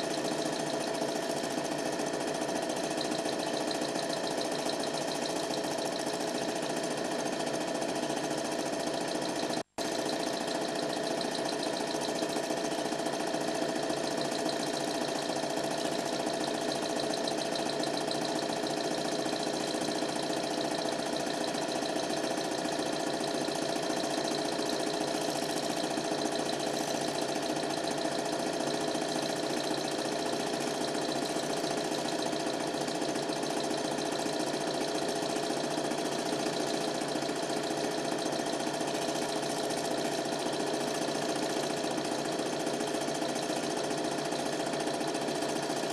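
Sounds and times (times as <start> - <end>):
film projector motor whirring: 0.0 - 45.9.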